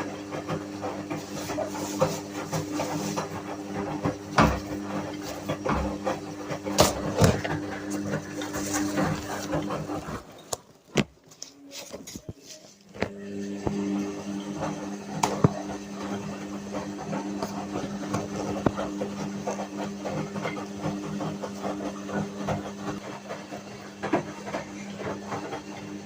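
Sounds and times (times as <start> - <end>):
washing machine motor humming: 0.0 - 26.0.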